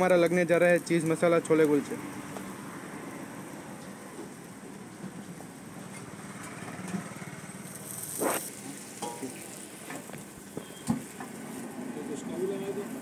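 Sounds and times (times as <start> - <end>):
bread sizzling on griddle: 0.0 - 13.0.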